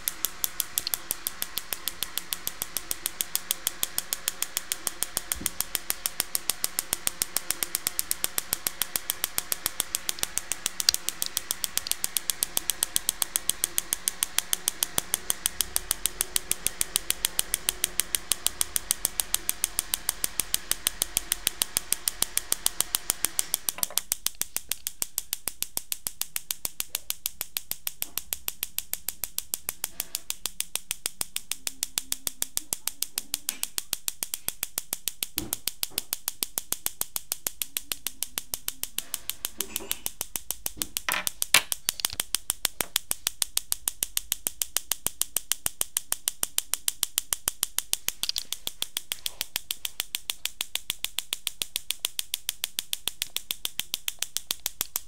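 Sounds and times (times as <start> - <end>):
tesla coil spark snaps: 0.0 - 55.0.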